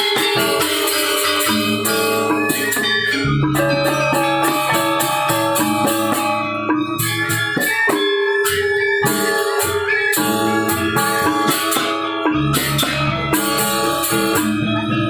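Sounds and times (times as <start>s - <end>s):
cymbal clashes: 0.0s - 14.6s
bronze metallophones ringing: 0.0s - 15.0s.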